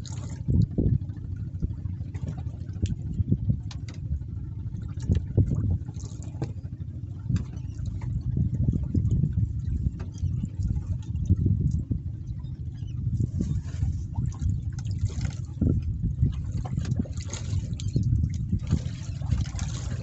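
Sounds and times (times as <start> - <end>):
uneven low rumble: 0.0 - 20.0
water lapping against boat hull: 0.0 - 20.0.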